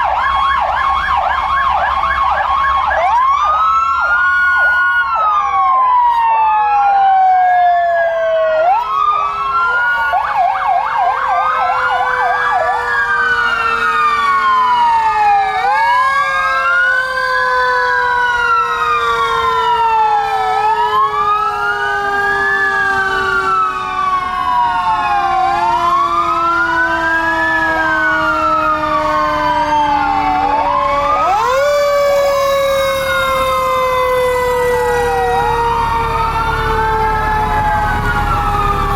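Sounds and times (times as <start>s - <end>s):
long falling siren tone: 0.0s - 38.9s
siren fast yelp: 0.0s - 38.9s
siren wailing: 0.0s - 38.9s.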